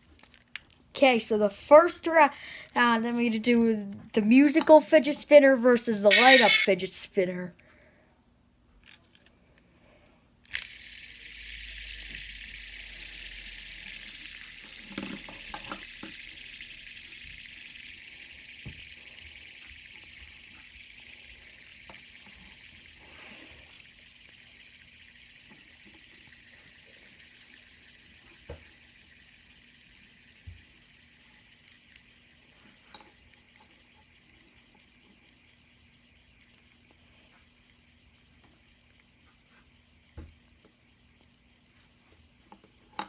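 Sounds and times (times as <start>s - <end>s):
fidget spinner whirring: 1.0s - 7.1s, 10.4s - 41.1s.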